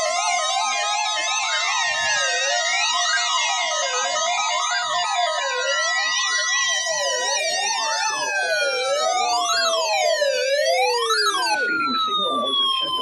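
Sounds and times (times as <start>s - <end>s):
electronic siren tones: 0.0s - 13.0s.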